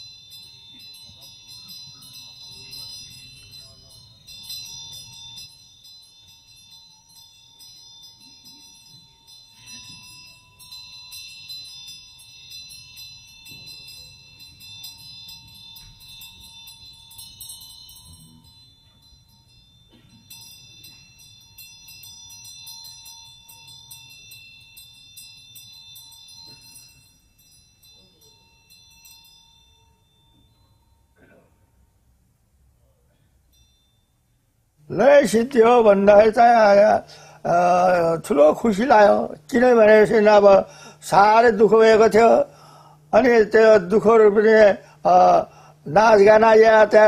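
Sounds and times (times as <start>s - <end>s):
soft bell-like tinkling: 0.0s - 47.0s
steady high ringing tones: 0.0s - 47.0s.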